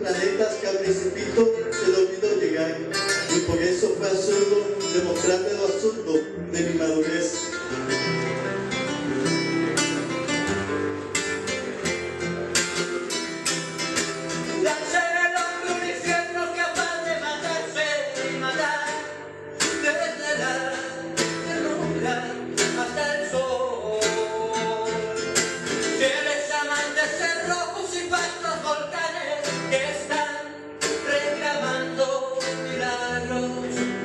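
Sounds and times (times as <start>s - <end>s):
man singing: 0.0s - 8.2s, 13.8s - 34.0s
nylon-string guitar: 0.0s - 34.0s.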